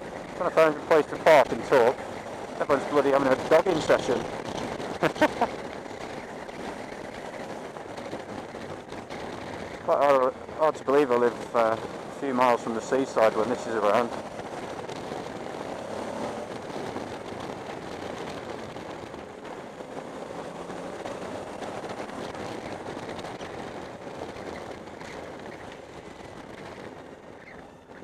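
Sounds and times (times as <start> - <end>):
motorcycle engine riding: 0.0 - 28.0
wind and road noise: 0.0 - 28.0.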